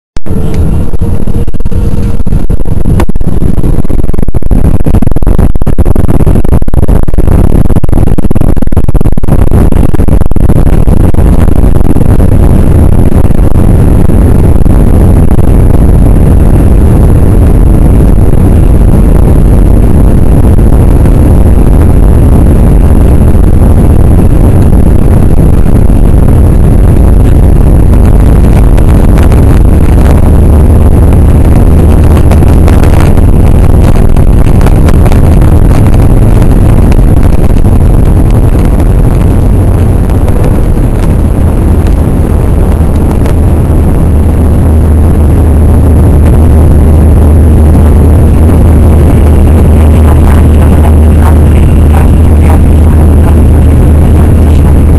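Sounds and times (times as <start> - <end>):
jet engines roaring: 0.2 - 54.9.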